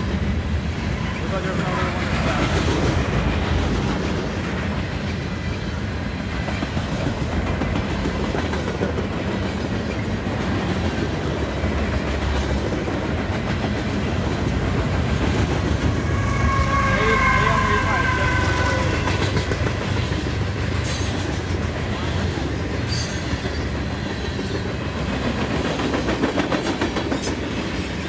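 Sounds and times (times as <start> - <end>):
steel wheels rumbling on rails: 0.0 - 28.0.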